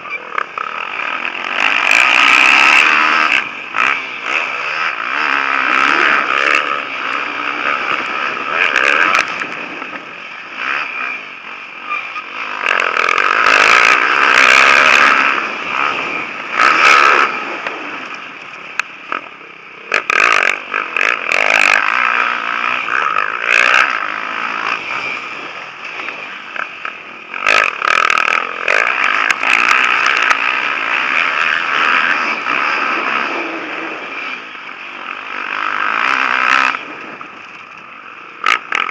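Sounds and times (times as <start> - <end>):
motocross bikes revving past: 0.0 - 38.9.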